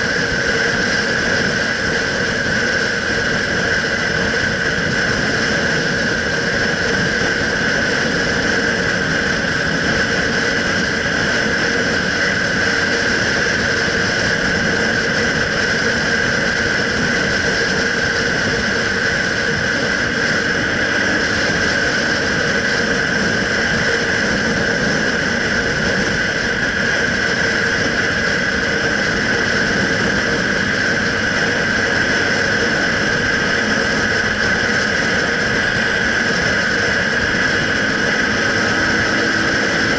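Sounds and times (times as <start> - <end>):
high whine: 0.0 - 39.9
motorcycle engine running: 0.0 - 39.9
wind rushing: 0.0 - 39.9.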